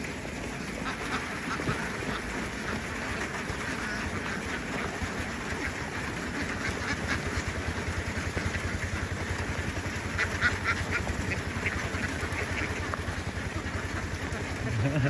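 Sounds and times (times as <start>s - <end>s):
ducks quacking: 0.0s - 15.0s
small engine chugging: 0.0s - 15.0s.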